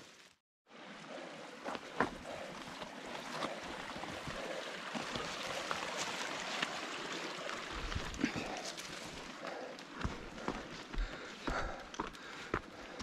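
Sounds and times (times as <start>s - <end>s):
creek water rushing: 0.7s - 13.0s.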